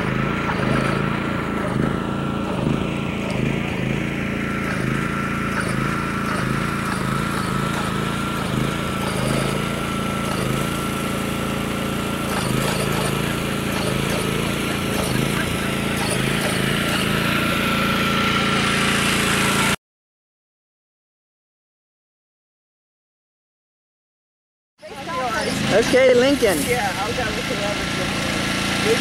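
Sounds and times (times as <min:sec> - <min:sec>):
motor humming with high whine: 0:00.0 - 0:19.8, 0:24.8 - 0:29.0.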